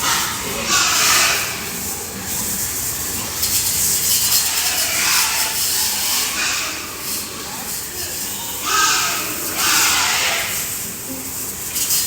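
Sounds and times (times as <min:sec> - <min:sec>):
hose spraying water: 0:00.0 - 0:12.0.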